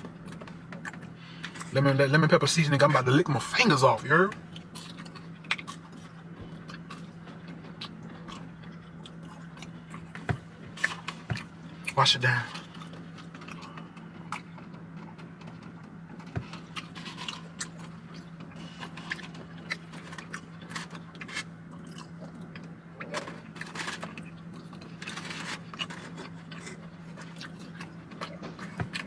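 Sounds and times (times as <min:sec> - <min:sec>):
steady low hum: 0:00.0 - 0:29.0
chewing crispy chicken: 0:04.4 - 0:29.0.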